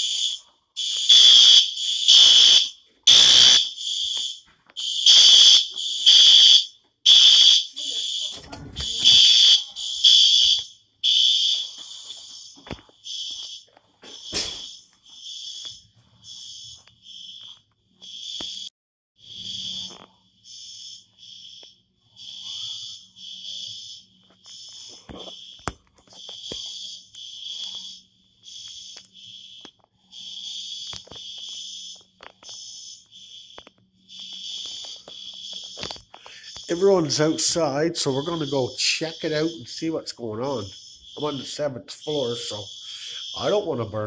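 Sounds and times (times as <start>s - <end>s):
fire alarm pulsing: 0.0s - 44.0s.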